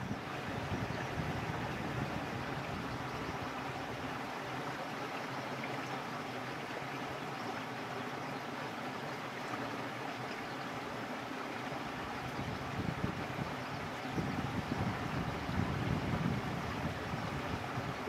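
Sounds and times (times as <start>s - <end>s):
water running in channel: 0.0s - 18.0s.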